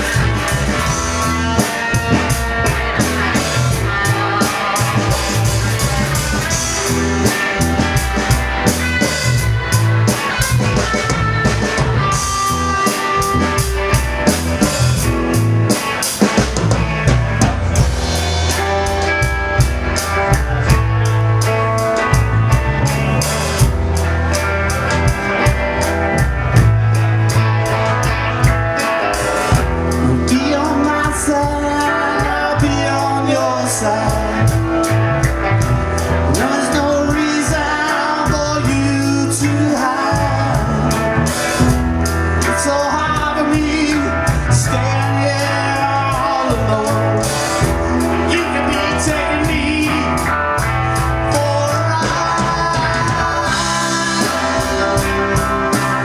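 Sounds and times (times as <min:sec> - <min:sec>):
bass guitar: 0:00.0 - 0:56.0
drum kit steady beat: 0:00.0 - 0:56.0
electric guitar: 0:00.0 - 0:56.0.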